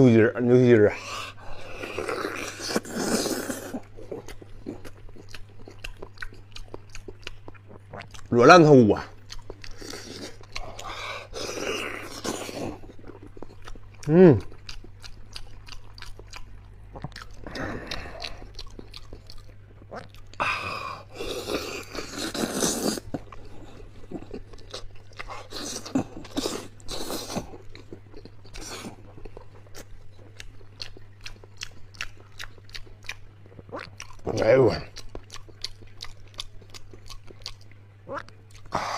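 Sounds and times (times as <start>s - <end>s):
steady low hum: 0.0s - 38.9s
wet chewing and mouth clicks: 1.2s - 8.4s, 9.0s - 38.9s.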